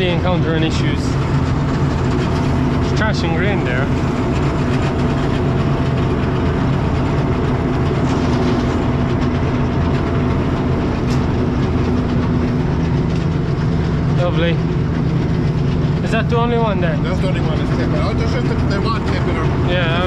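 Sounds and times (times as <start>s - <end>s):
diesel machinery engine drone: 0.0s - 20.0s.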